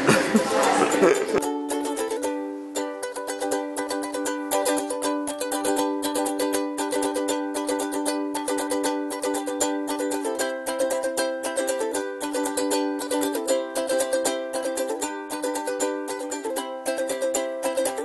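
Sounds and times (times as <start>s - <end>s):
plucked string tune: 0.0s - 18.0s.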